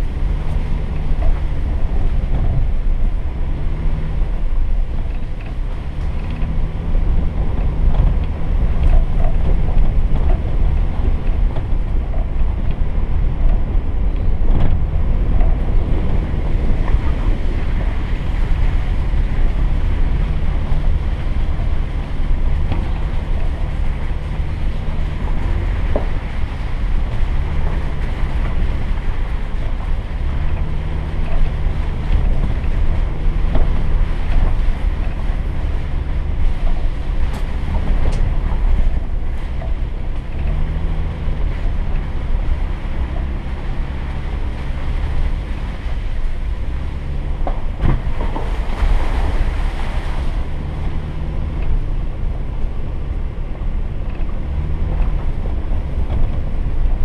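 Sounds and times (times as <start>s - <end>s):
vehicle engine rumble: 0.0s - 57.0s
wind noise on microphone: 0.0s - 57.0s.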